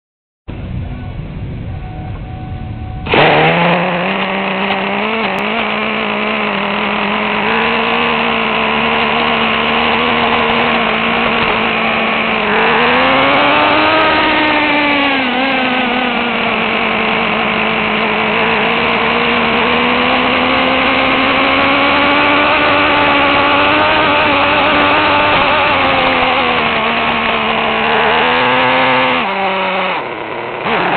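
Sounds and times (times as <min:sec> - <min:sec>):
rc truck engine high revs: 0:03.0 - 0:30.9.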